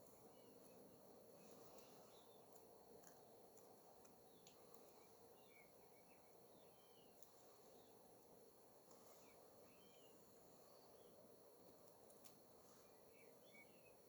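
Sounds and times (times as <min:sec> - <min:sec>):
faint background hum: 0:00.0 - 0:14.0
faint ticks and chirps: 0:00.0 - 0:14.0.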